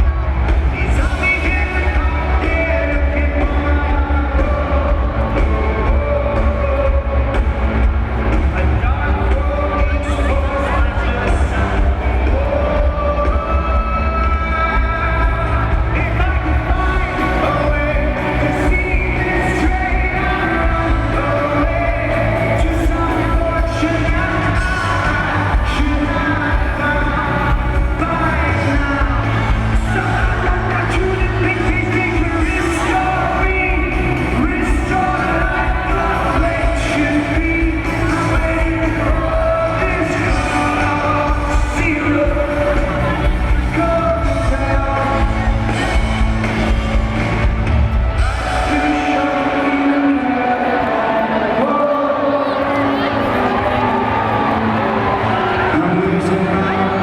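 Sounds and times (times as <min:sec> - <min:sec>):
steady bass line: 0:00.0 - 0:51.6
lead singer singing: 0:00.0 - 0:57.0
live rock band: 0:00.0 - 0:57.0.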